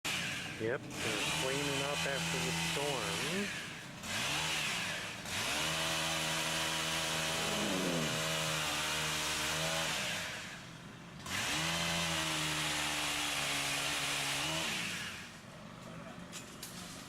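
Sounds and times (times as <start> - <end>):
chainsaw engine revving: 0.1 - 10.6, 11.2 - 15.4.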